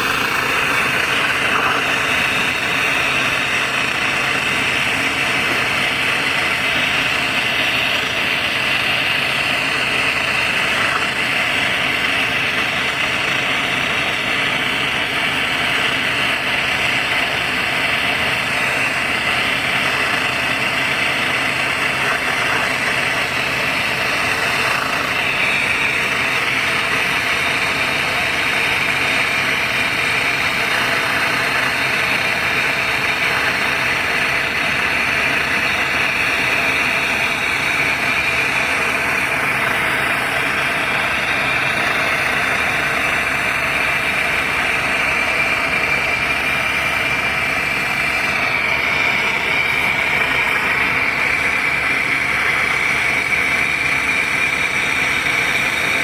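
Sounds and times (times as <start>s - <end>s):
torch flame hissing: 0.0s - 56.0s.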